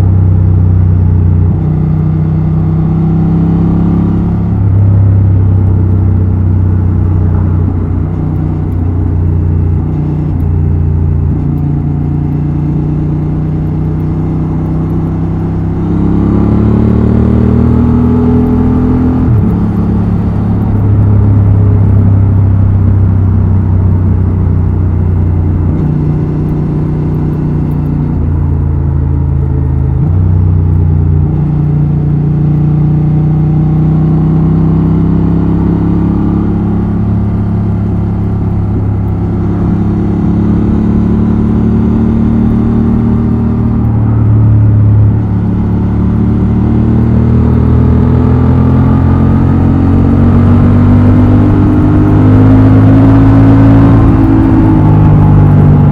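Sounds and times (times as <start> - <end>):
motorcycle engine and exhaust: 0.0 - 55.9.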